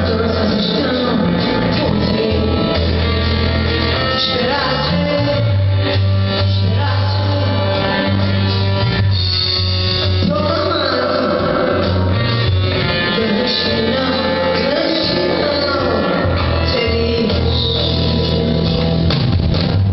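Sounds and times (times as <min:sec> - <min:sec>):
person singing: 0:00.0 - 0:09.0, 0:10.0 - 0:19.2
guitar: 0:00.0 - 0:19.9
low bass line: 0:00.0 - 0:19.9.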